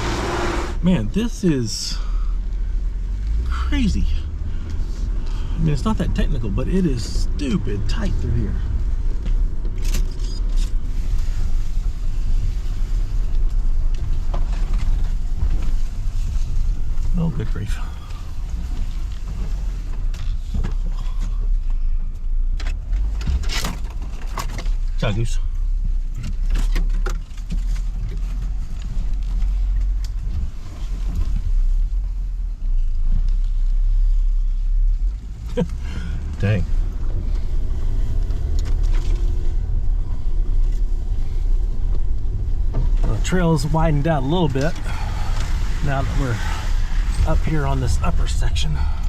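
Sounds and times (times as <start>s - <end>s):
engine and drivetrain rumble: 0.0s - 49.0s.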